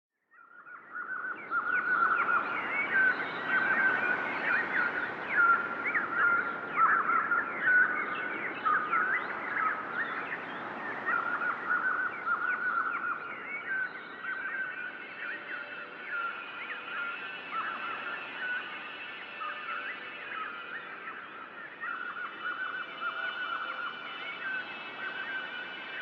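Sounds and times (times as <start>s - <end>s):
songbirds chirping: 0.3s - 26.0s.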